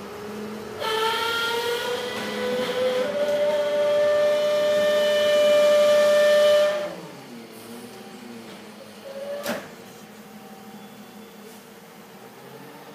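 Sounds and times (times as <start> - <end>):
hydraulic packer whine: 0.0 - 11.6
garbage truck engine: 0.0 - 12.9.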